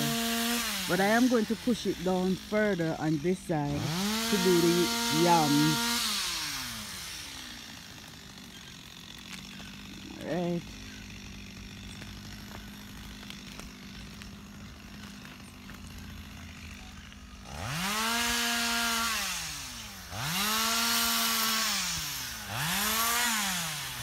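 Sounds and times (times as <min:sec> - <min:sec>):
chainsaw revving: 0:00.0 - 0:24.0.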